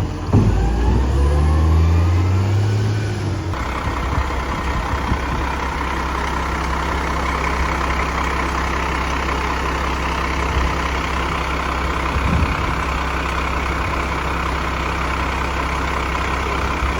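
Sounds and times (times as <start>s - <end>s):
diesel engine idling with exhaust leak: 0.0s - 16.9s.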